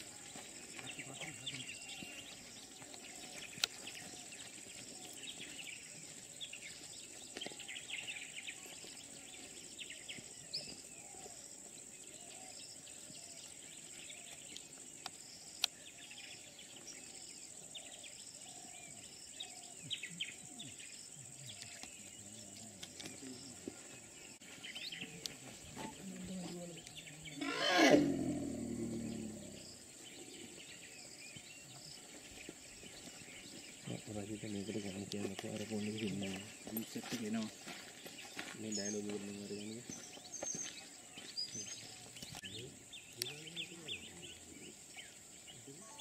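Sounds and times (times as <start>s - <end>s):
bird chirps and calls: 0.0s - 46.0s.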